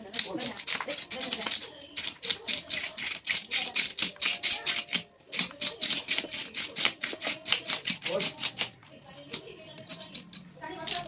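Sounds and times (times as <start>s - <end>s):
peeler scraping fish scales: 0.0s - 11.0s.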